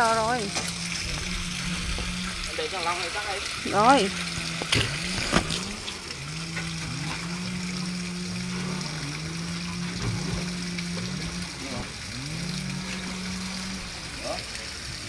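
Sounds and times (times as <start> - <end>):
low motor hum: 0.0 - 15.0
water splashing and streaming: 0.0 - 15.0.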